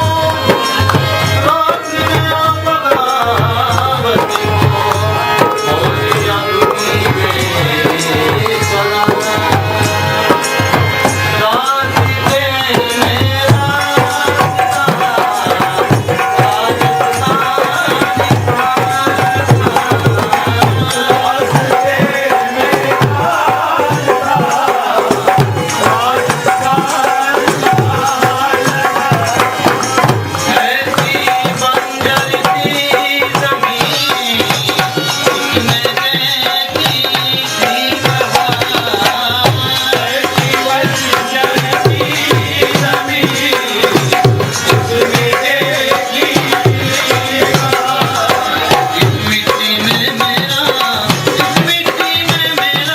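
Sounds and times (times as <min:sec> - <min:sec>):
tabla drumming: 0:00.0 - 0:52.9.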